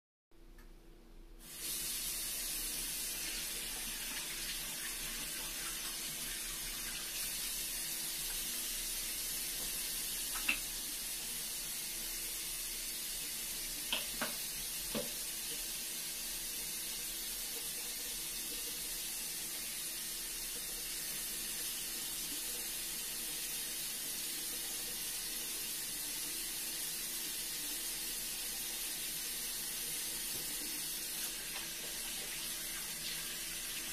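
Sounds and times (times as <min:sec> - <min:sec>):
faucet turned on: 0:01.4 - 0:33.9
water running into a sink: 0:01.4 - 0:33.9.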